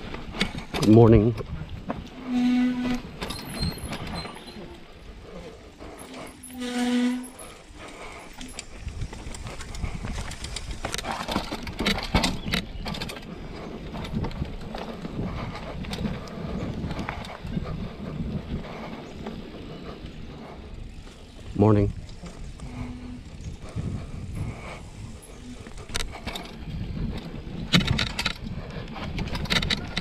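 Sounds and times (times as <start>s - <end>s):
bike tyres rattling over dirt: 0.0s - 30.0s.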